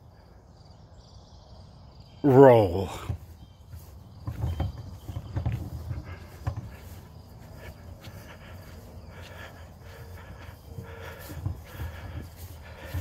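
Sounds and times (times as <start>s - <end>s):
footsteps on grass: 2.3s - 13.0s
wheelbarrow rumbling on lawn: 2.3s - 13.0s.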